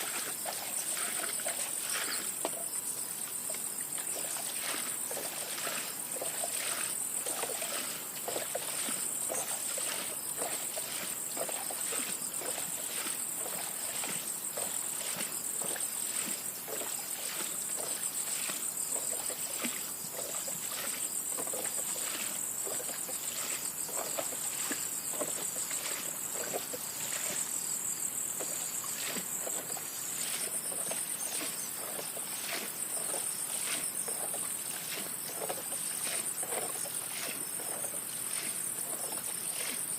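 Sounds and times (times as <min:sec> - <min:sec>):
high-pitched pulsing insect chorus: 0:00.0 - 0:39.9
water splashing and trickling: 0:00.0 - 0:39.9.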